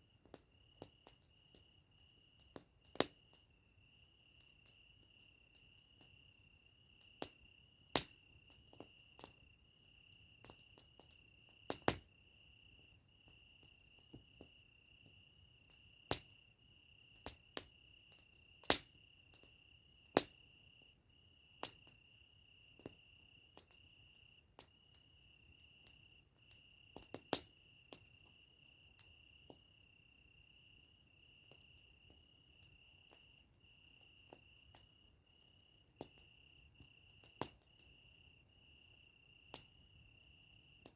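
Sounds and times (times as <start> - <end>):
campfire wood crackling: 0.0 - 40.9
insect trill: 0.0 - 40.9.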